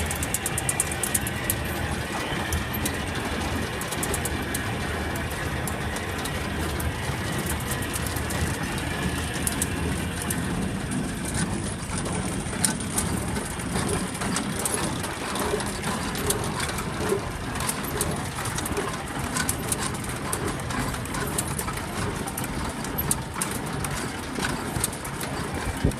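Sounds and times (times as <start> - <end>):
hay baler engine rumble: 0.0 - 25.9
rattling mechanical clatter: 0.0 - 25.9.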